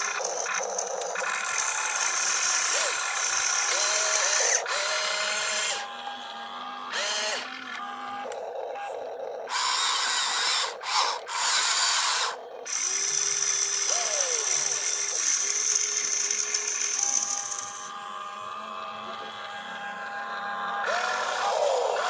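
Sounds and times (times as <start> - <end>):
electric motors whining: 0.0 - 22.0.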